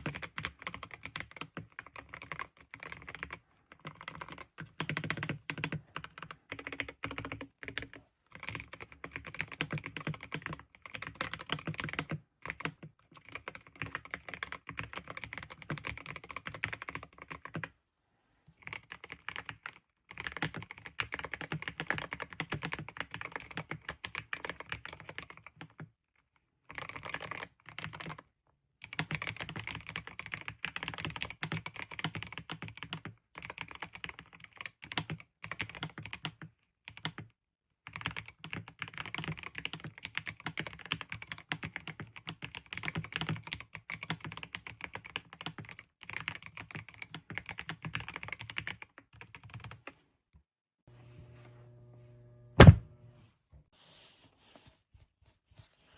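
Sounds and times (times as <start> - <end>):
mechanical keyboard typing: 0.0 - 17.7, 18.6 - 25.8, 26.7 - 28.2, 28.8 - 37.2, 37.9 - 49.9.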